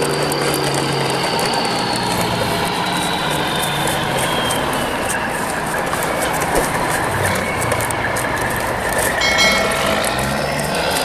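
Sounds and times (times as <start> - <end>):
plastic toy trucks rolling: 0.0 - 11.0.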